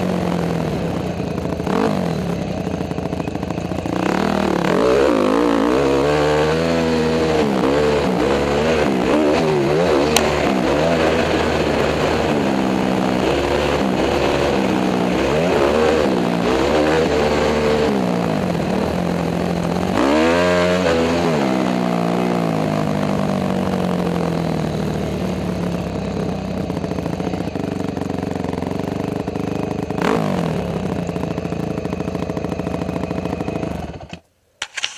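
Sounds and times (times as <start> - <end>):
dirt bike engine revving: 0.0 - 27.5, 28.3 - 34.9.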